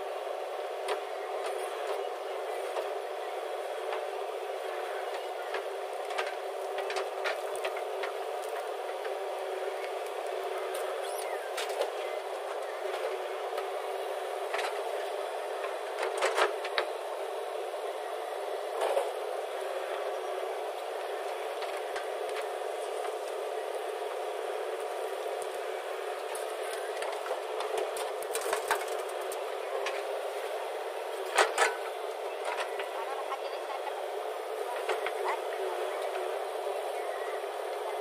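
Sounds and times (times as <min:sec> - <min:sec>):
construction machinery diesel engine: 0:00.0 - 0:38.0.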